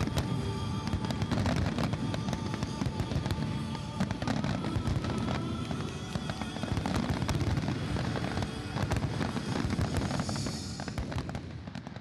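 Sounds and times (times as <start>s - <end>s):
fireworks bangs and crackling: 0.0s - 12.0s
music: 0.0s - 12.0s.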